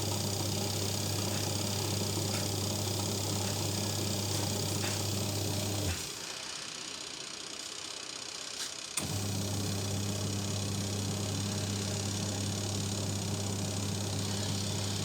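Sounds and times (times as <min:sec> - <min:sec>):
washing machine motor humming: 0:00.0 - 0:06.4, 0:09.0 - 0:15.0.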